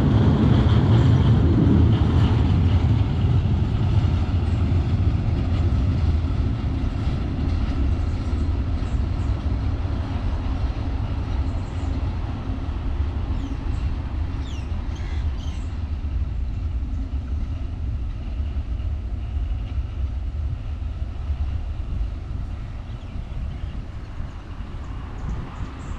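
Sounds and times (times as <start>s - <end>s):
freight train rumbling: 0.0s - 25.9s.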